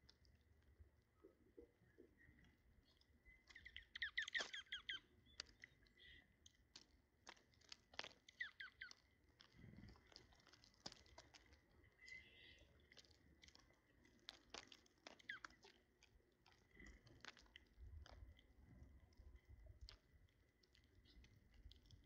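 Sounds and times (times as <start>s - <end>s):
birds pecking taps and crunches: 1.6s - 22.0s.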